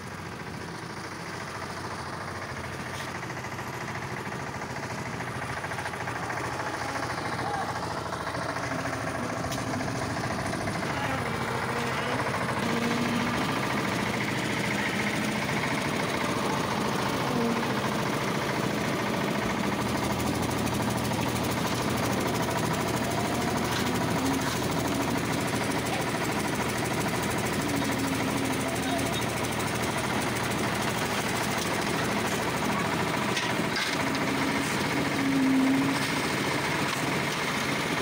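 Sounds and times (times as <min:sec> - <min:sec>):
concrete mixer clattering: 0:00.9 - 0:38.0.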